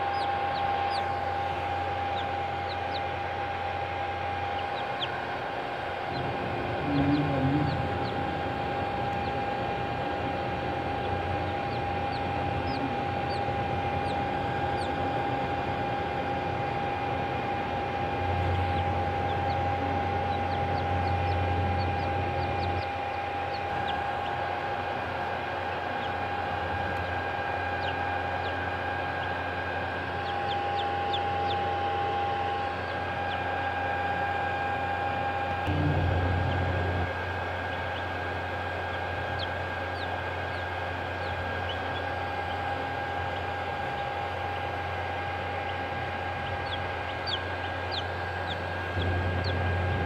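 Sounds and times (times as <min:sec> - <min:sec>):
chicks peeping: 0:00.0 - 0:34.3, 0:35.4 - 0:50.0
steady mechanical hum: 0:00.0 - 0:50.0.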